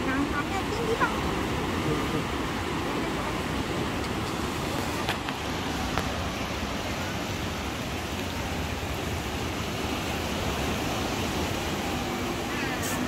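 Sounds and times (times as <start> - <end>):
surf breaking on beach: 0.0 - 13.0
wind: 0.0 - 13.0.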